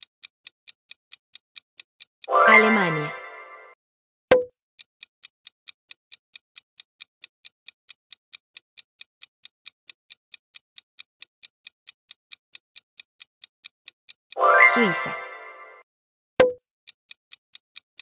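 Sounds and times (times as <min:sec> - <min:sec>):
clock ticking: 0:00.0 - 0:15.8, 0:16.4 - 0:18.0.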